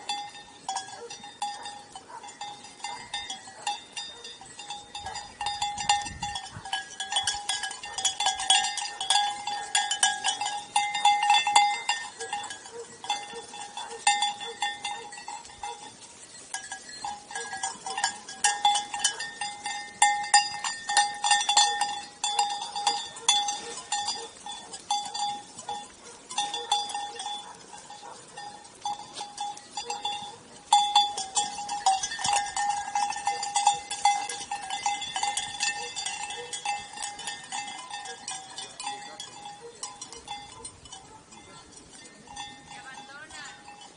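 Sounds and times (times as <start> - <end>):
sheep bells ringing and clanking: 0.0 - 43.9.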